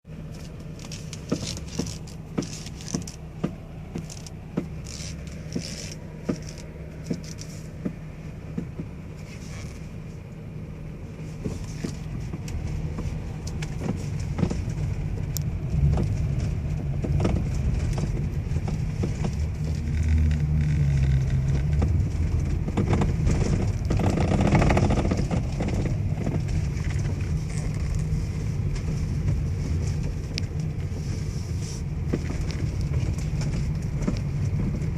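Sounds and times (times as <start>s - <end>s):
low rumble of vehicle: 0.0s - 34.9s
steering knocking: 0.2s - 10.0s, 11.0s - 34.9s.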